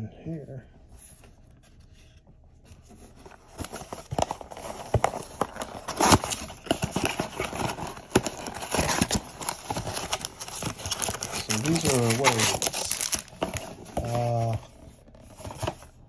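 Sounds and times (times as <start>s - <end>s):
cardboard box being opened: 2.8s - 16.0s
cardboard flaps clicking and rustling: 3.0s - 16.0s.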